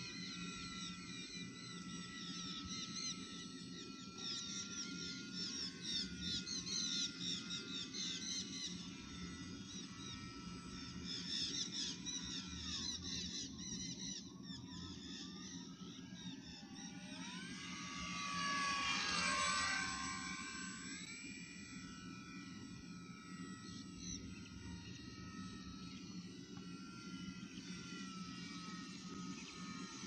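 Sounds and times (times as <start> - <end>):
model airplane engine whine: 0.0 - 30.0.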